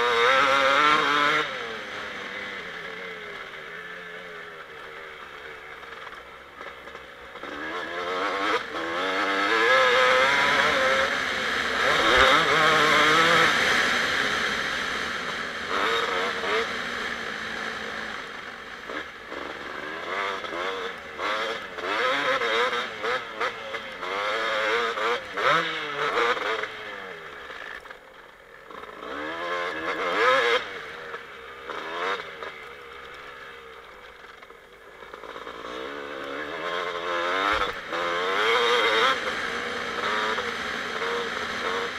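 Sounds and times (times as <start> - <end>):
motocross engine revving: 0.0 - 3.9, 5.4 - 41.9.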